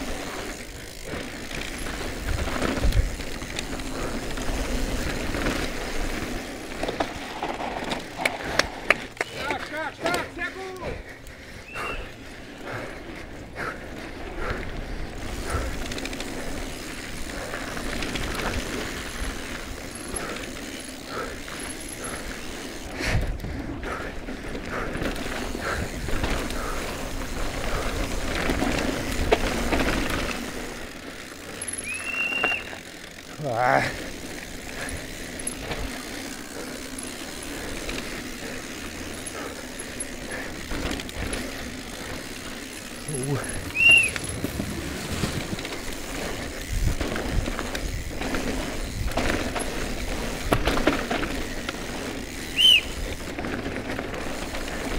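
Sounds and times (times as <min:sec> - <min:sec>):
bike rattling: 0:00.0 - 0:54.9
bike tyre rumble on dirt: 0:00.0 - 0:54.9.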